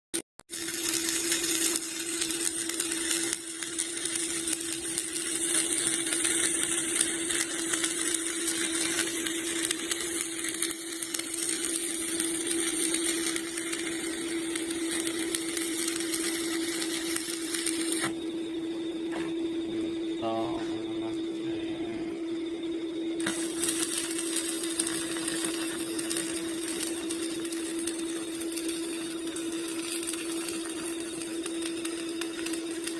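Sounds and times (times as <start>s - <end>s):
welding arc crackling: 0.4s - 18.3s, 23.2s - 32.9s
steady hum: 0.6s - 32.9s.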